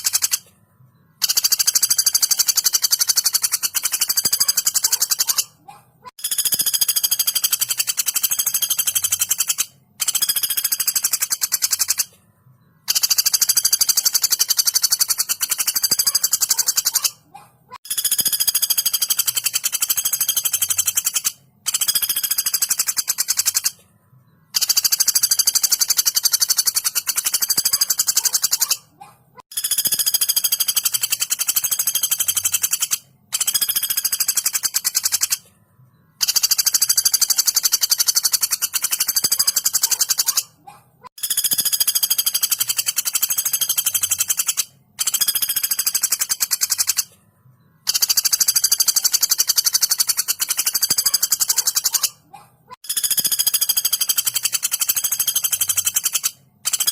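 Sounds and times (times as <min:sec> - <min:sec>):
woodpecker rattling calls: 0:00.0 - 0:00.5, 0:01.1 - 0:12.2, 0:12.8 - 0:35.5, 0:36.1 - 0:47.2, 0:47.8 - 0:56.9.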